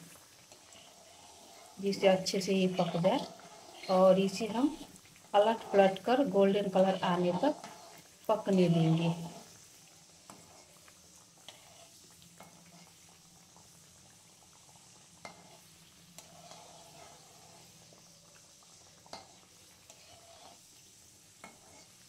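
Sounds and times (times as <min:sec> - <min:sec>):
puri sizzling in hot oil: 0:00.0 - 0:22.0.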